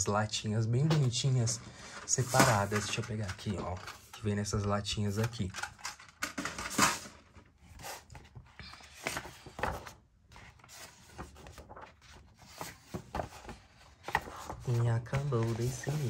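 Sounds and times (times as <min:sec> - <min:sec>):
soft handling noise: 0:00.8 - 0:16.0
paper pages rustling: 0:01.7 - 0:16.0.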